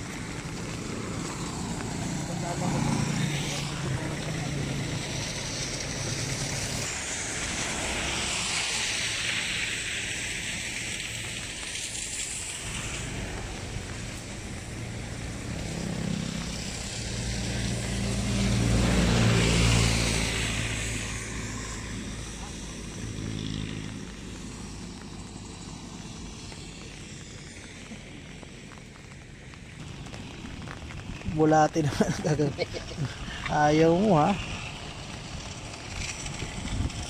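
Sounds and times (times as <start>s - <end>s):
rain and wind hiss: 0.0s - 37.0s
vehicle passing on wet road: 0.0s - 37.0s.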